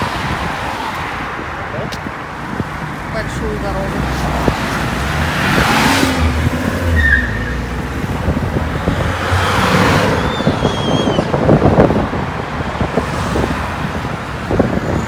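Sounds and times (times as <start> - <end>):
cars passing by: 0.0 - 15.0.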